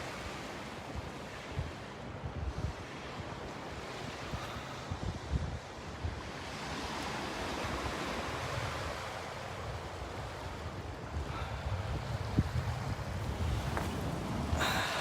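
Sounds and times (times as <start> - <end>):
sea waves rushing: 0.0 - 15.0
wind buffeting microphone: 0.1 - 15.0.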